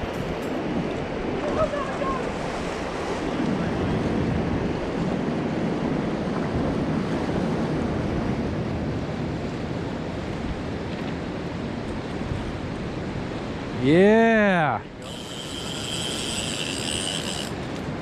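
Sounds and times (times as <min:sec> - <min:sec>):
wind noise on microphone: 0:00.0 - 0:13.8, 0:14.9 - 0:18.0.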